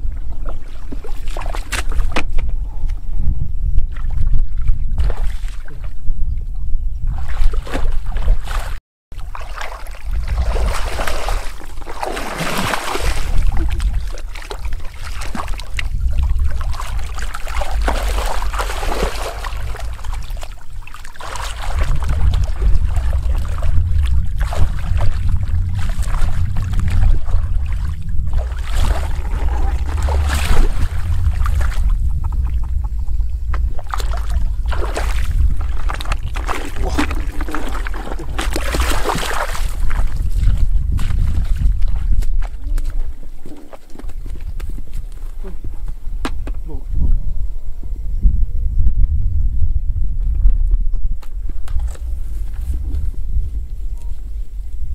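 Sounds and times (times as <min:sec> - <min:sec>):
muddy water splashing and sloshing: 0:00.0 - 0:02.8, 0:03.8 - 0:06.1, 0:07.0 - 0:46.6
steady low rumble: 0:09.2 - 0:43.6, 0:44.2 - 0:54.9.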